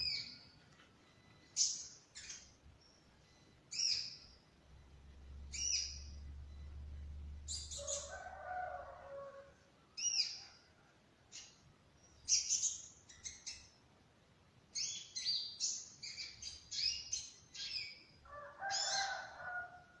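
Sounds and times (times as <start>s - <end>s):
songbird chirping and trilling: 0.0s - 14.0s, 14.6s - 20.0s.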